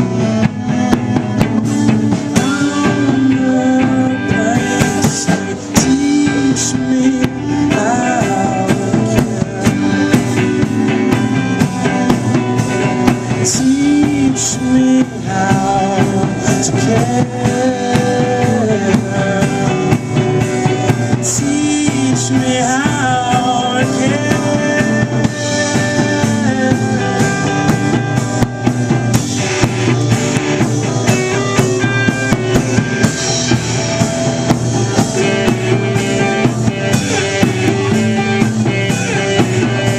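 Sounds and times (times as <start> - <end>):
drum kit with cymbals and snare: 0.0 - 39.9
live rock band playing: 0.0 - 39.9.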